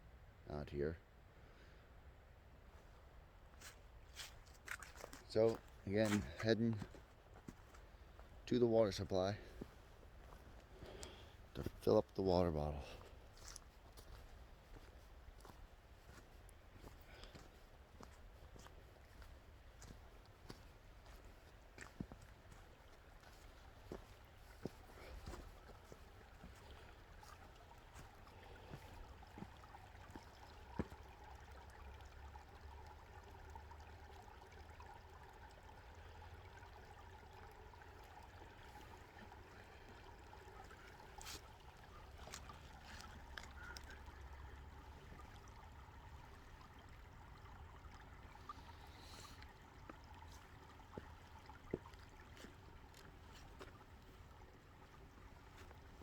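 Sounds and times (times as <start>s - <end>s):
creek trickling: 0.0s - 56.0s.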